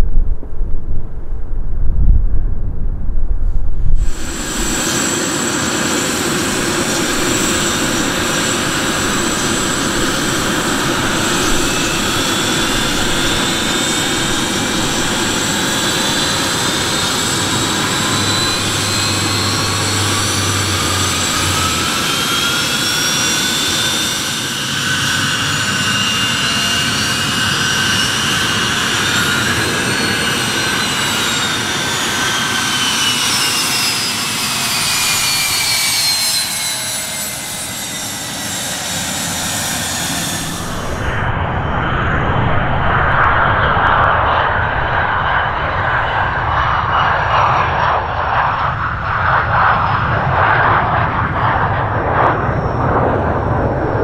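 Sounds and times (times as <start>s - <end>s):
jet engine whine and hiss: 2.4s - 54.0s.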